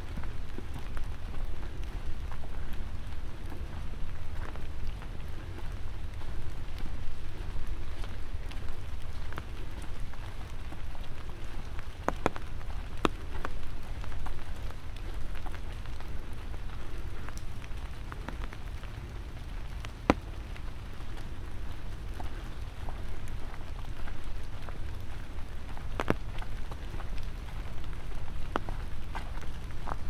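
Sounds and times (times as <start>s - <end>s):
light rain falling: 0.0s - 30.0s
raindrop ticks: 0.0s - 30.0s
steady low rumble: 0.0s - 30.0s.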